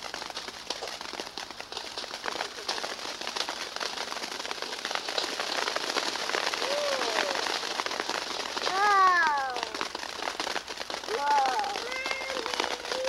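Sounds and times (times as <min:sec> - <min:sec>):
firework fountain hissing and crackling: 0:00.0 - 0:13.0.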